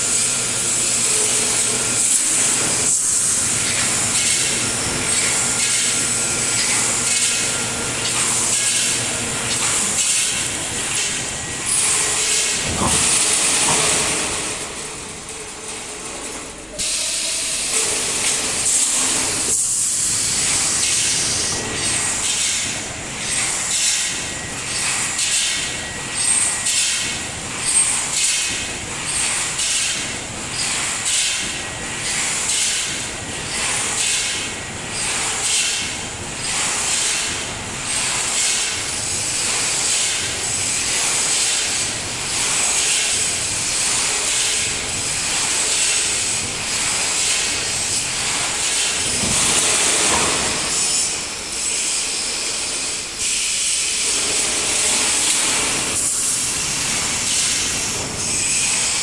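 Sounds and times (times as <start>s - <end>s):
welding machine pulsing hiss: 0.0s - 16.1s, 16.8s - 59.0s.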